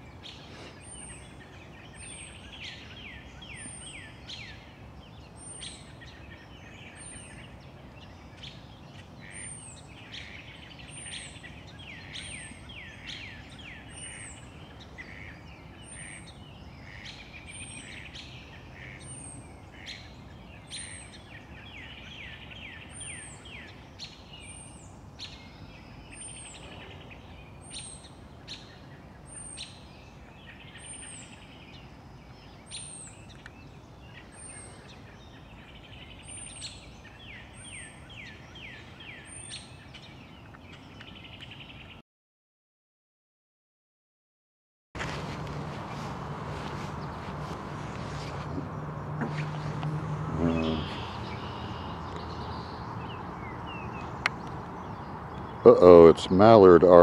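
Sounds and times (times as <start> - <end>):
small birds singing: 0.0 - 42.0, 45.0 - 57.0.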